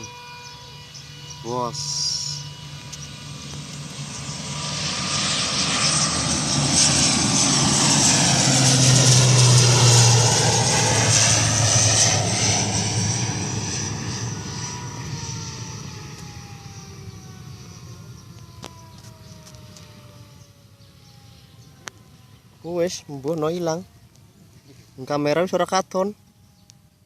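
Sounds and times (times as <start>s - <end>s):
turboprop airliner taking off: 0.0s - 27.0s.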